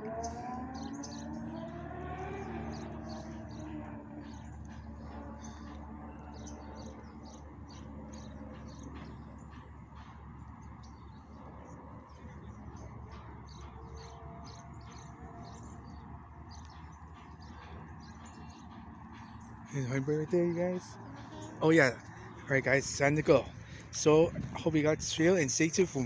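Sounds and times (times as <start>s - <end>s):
low steady background rumble: 0.0s - 26.0s
small birds chirping: 0.0s - 26.0s.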